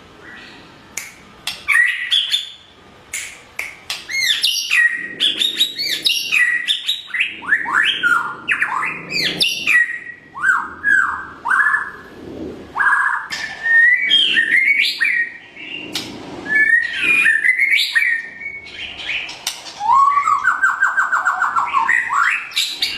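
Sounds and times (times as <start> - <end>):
bird trill: 1.5 - 2.8, 4.0 - 12.0, 12.8 - 22.9.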